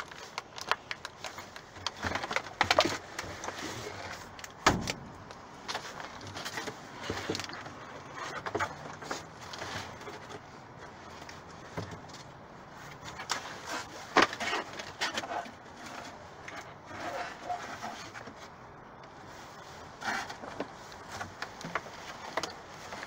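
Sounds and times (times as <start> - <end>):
cardboard and plastic rustling: 0.0 - 23.0
crackles: 0.0 - 23.0.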